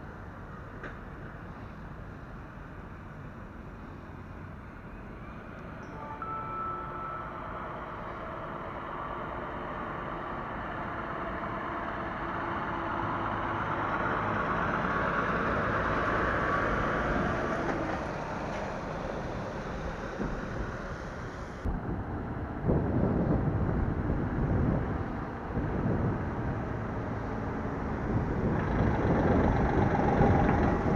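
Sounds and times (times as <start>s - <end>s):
lorry diesel engine running: 6.0s - 30.9s.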